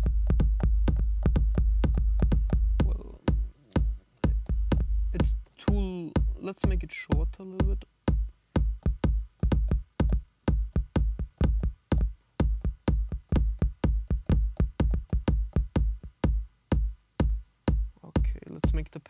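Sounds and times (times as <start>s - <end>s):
electronic drum loop: 0.0s - 19.0s.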